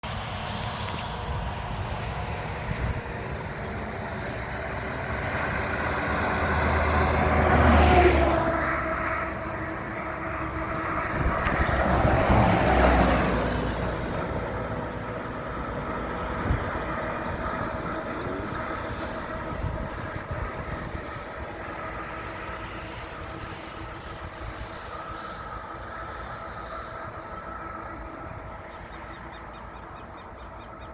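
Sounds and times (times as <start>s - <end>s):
coach passing on highway: 0.0s - 30.9s.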